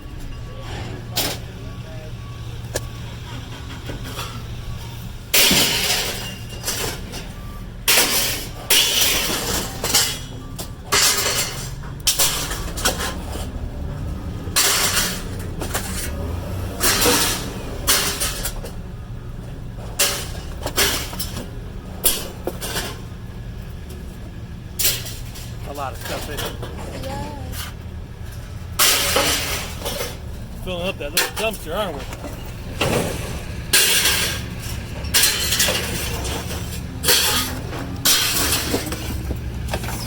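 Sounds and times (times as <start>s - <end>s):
vehicle engine idling: 0.0s - 40.0s
scrap metal clanging onto pile: 3.3s - 13.5s, 14.5s - 18.8s, 19.8s - 23.1s, 24.8s - 40.0s.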